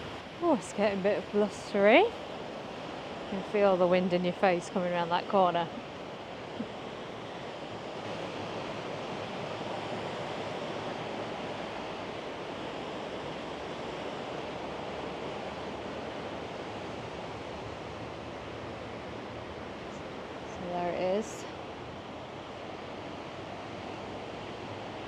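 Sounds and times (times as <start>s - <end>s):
gusty wind: 0.0s - 25.0s
sea surf washing on shore: 0.0s - 25.0s.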